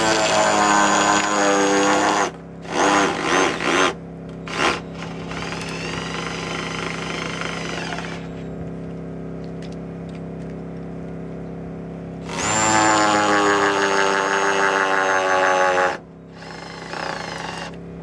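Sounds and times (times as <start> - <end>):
steady engine hum: 1.9 - 18.0.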